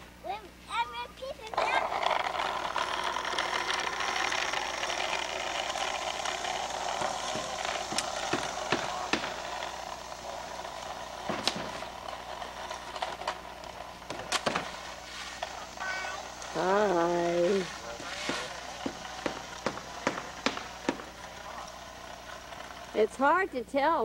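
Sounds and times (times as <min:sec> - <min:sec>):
wagon wheels rattling on asphalt: 0:01.2 - 0:24.0.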